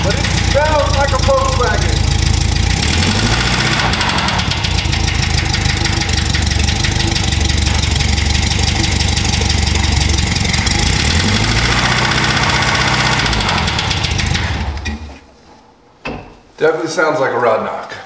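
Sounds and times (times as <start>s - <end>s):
car engine running with rhythmic knock: 0.0s - 15.2s.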